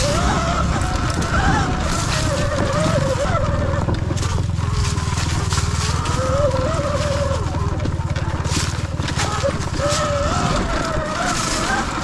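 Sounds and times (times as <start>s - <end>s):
electric dirt bike motor whine: 0.0s - 12.0s
wind rumble on microphone: 0.0s - 12.0s.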